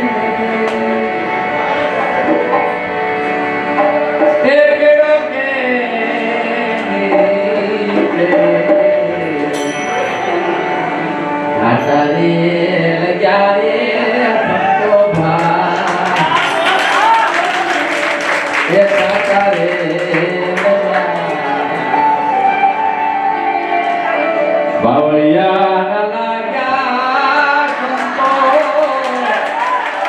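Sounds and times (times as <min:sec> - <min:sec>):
man singing: 0:00.0 - 0:02.3, 0:04.1 - 0:22.3, 0:24.7 - 0:29.6
instrumental accompaniment: 0:00.0 - 0:30.0.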